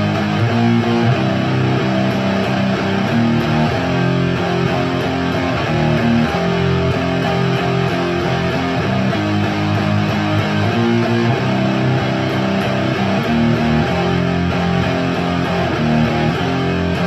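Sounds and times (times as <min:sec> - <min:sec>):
electric guitar playing chords: 0:00.0 - 0:17.0.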